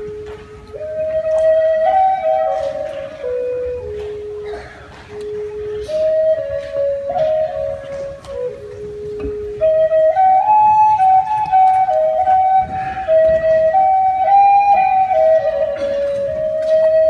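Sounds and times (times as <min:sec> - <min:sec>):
wooden flute melody: 0:00.0 - 0:17.0.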